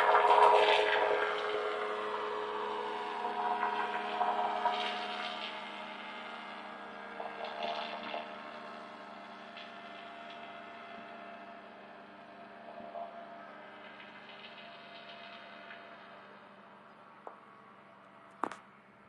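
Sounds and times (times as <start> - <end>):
distant engine and propeller hum: 0.0 - 19.0.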